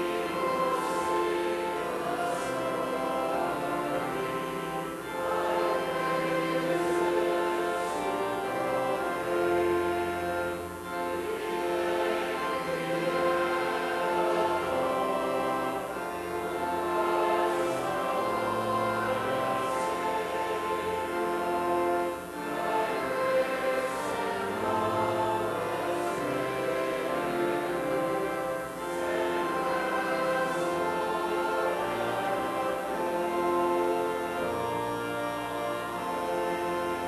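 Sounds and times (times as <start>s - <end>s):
church organ playing hymn: 0.0s - 37.0s.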